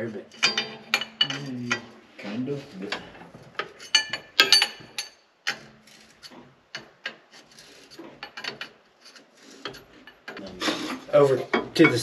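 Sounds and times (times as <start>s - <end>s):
metal tools clinking and scraping: 0.0s - 12.0s.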